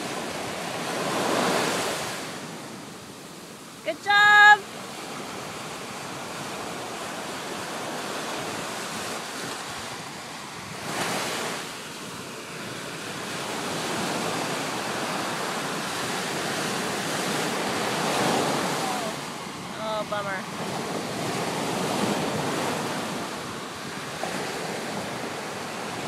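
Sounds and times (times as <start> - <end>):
surf breaking on a beach: 0.0 - 26.0.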